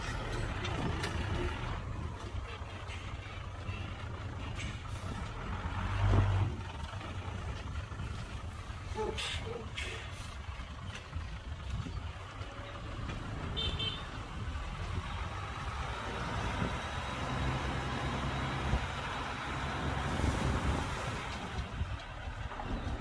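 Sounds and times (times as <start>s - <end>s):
diesel machinery engine rumble: 0.0s - 23.0s.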